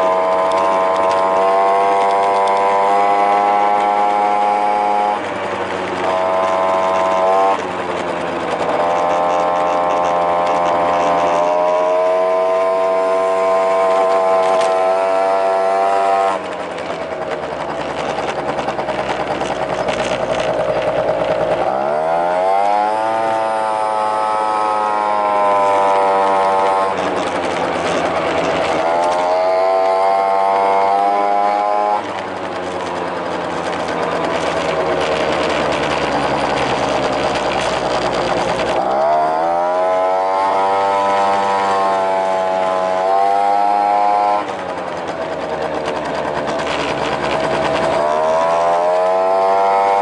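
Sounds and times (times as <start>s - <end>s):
loud engine intake noise: 0.0s - 50.0s
scooter engine running: 0.0s - 50.0s.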